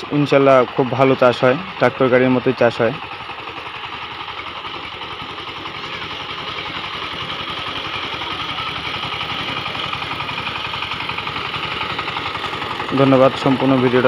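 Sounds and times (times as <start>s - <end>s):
diesel engine chugging: 0.0s - 14.0s.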